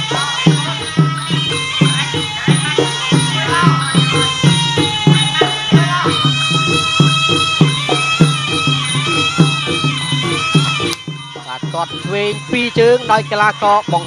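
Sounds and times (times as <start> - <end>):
quick drum beat: 0.0 - 14.0
reed pipe melody: 0.0 - 14.0.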